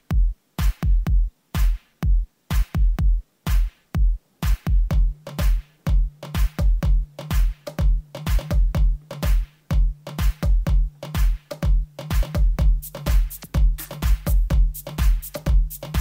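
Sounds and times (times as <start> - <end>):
drum machine beat: 0.0 - 16.0
steady bass line: 0.0 - 16.0.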